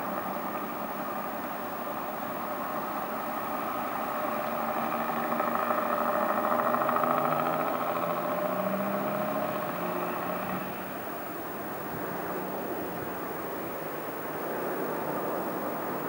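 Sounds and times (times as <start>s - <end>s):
train diesel engines working hard: 0.0s - 16.0s.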